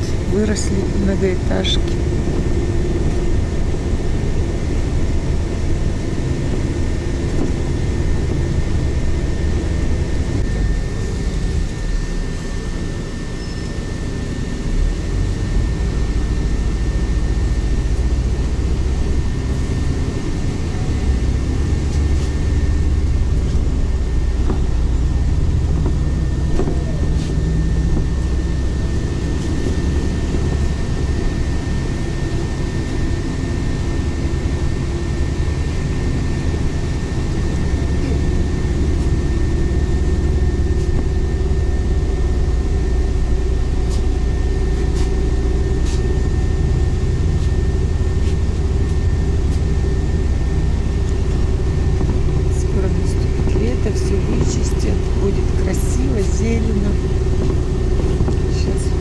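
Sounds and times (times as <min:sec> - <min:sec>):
bus engine and road rumble: 0:00.0 - 0:59.0
faint high whine: 0:08.6 - 0:59.0.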